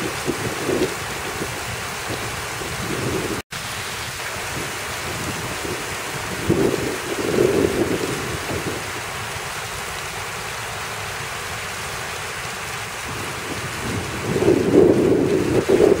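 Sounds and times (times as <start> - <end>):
fountain water splashing: 0.0 - 16.0
rain falling: 0.0 - 16.0.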